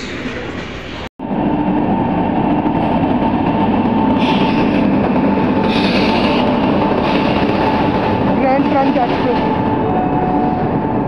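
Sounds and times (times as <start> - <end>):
rush of train wheels on rail: 0.0 - 11.0.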